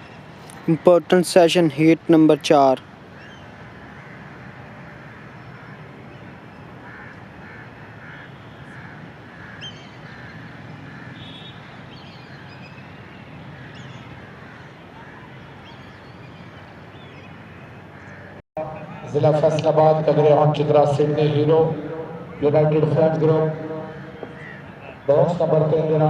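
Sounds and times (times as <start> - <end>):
outdoor background noise: 0.0 - 26.0
repeated bird calls: 0.0 - 26.0.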